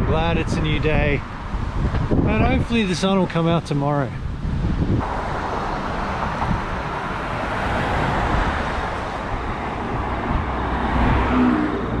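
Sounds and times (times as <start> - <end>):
passing vehicles rushing: 0.0 - 12.0.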